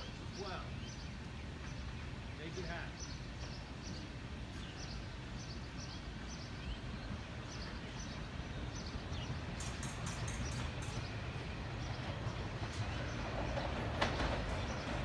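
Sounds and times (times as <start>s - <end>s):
small birds chirping: 0.0s - 15.0s
train rumble approaching: 0.0s - 15.0s.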